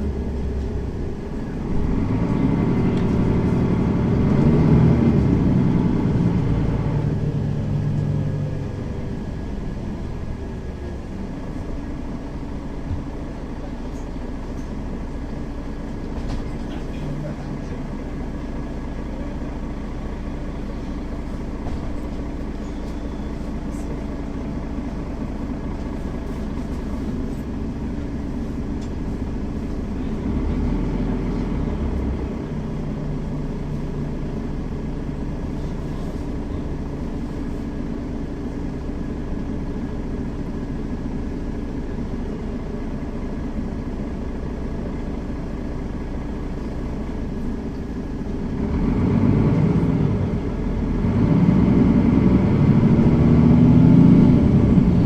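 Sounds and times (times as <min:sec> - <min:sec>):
bus engine and road noise drone: 0:00.0 - 0:55.0.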